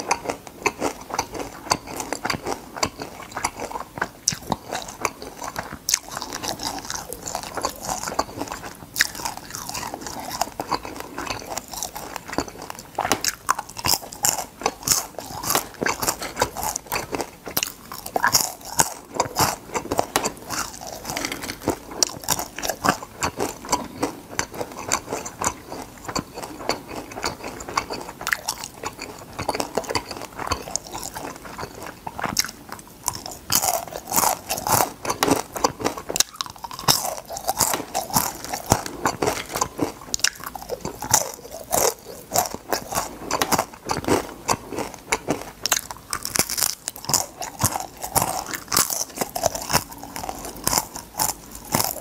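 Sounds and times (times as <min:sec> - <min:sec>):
person crunching fried food: 0:00.0 - 0:52.0.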